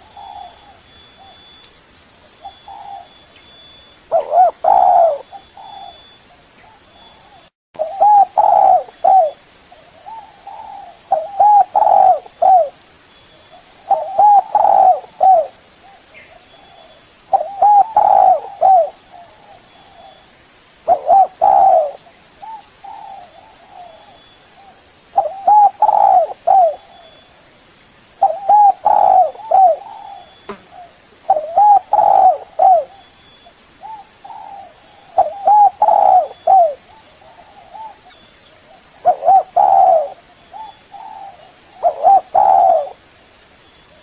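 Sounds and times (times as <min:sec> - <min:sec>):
dove cooing: 0:00.0 - 0:01.5, 0:02.4 - 0:03.2, 0:04.1 - 0:12.8, 0:13.5 - 0:20.2, 0:20.9 - 0:27.2, 0:28.2 - 0:33.2, 0:33.8 - 0:43.0.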